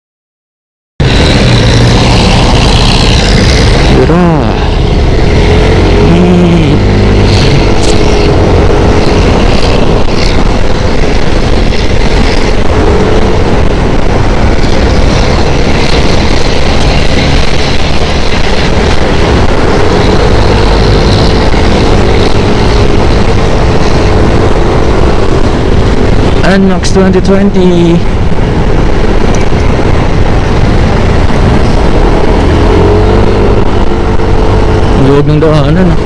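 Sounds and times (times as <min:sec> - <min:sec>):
wind roaring over microphone: 0:01.0 - 0:36.0.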